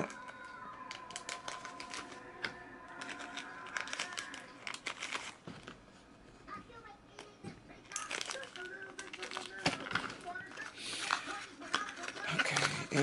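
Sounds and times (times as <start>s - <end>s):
plastic crinkling: 0.0s - 5.8s, 7.1s - 13.0s.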